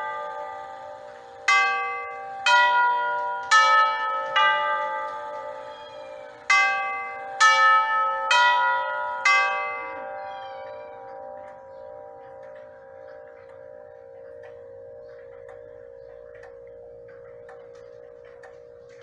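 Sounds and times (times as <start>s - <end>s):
grandfather clock chime melody: 0.0s - 19.0s.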